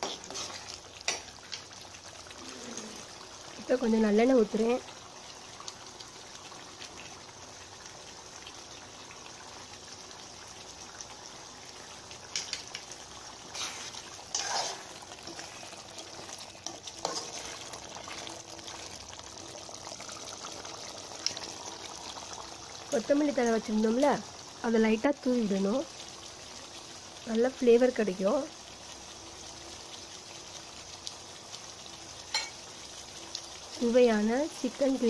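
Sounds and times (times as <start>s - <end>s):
gravy simmering and bubbling: 0.0s - 35.0s.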